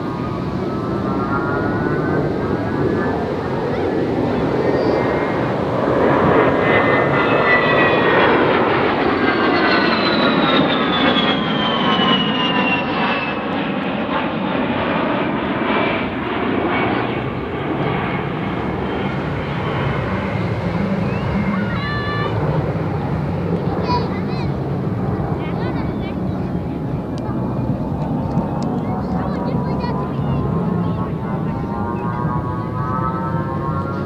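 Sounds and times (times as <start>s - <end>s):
jet rush: 0.0s - 33.8s
jet engine whine: 0.0s - 34.0s.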